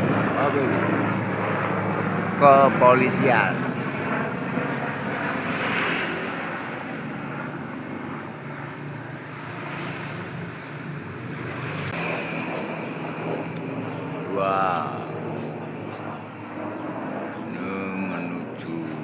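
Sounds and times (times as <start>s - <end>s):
helicopter flying overhead: 0.0s - 19.0s.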